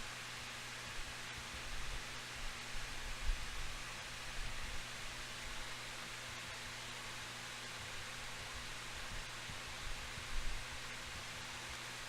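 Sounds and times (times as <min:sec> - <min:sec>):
low electrical hum: 0:00.0 - 0:12.0
steady hiss: 0:00.0 - 0:12.0.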